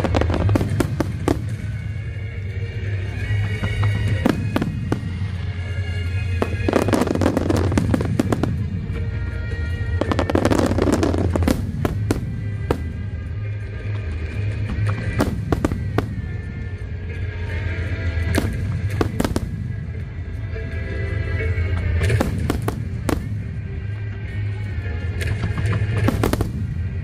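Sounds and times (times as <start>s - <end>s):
fireworks bangs: 0.0s - 2.1s, 3.2s - 16.8s, 17.5s - 20.1s, 21.5s - 23.6s, 25.2s - 27.0s
rapid fireworks crackling: 0.0s - 27.0s.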